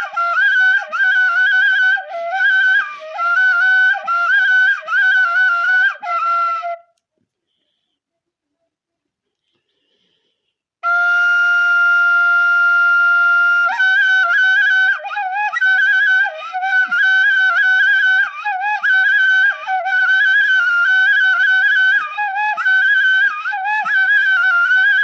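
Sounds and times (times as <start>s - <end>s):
flute-like wind instrument melody: 0.0s - 7.0s, 10.8s - 25.0s.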